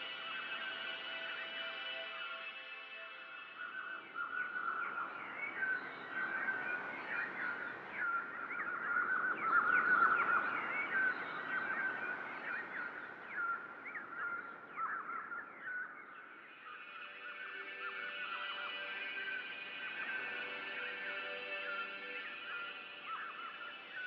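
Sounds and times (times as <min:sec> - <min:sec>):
flock of small birds chirping: 0:03.4 - 0:24.0.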